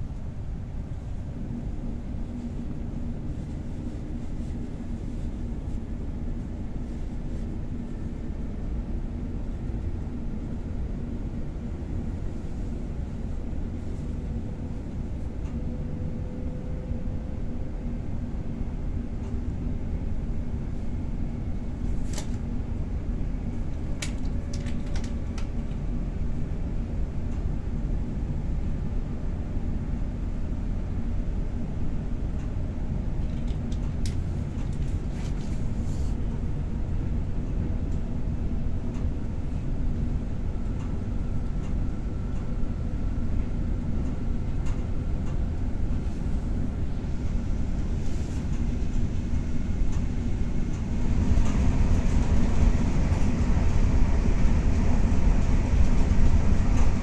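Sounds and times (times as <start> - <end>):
train rumble from inside: 0.0 - 57.0.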